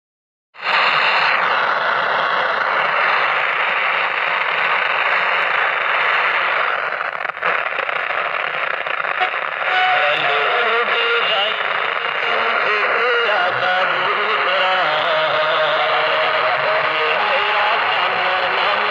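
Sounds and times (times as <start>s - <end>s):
radio static hiss: 0.6s - 18.9s.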